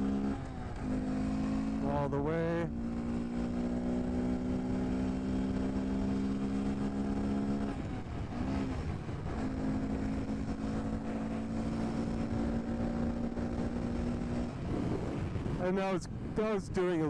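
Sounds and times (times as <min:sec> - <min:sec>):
motorcycle engine at full throttle: 0:00.0 - 0:17.0.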